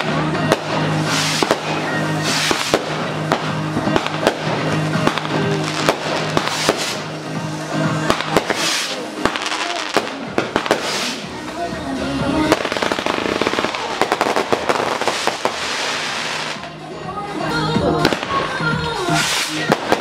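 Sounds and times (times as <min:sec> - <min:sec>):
firework bangs: 0:00.0 - 0:11.6, 0:12.3 - 0:16.7, 0:18.0 - 0:20.0
hissing crackling firework bursts: 0:00.0 - 0:11.6, 0:12.4 - 0:16.7, 0:19.0 - 0:20.0
music with low notes: 0:00.0 - 0:20.0.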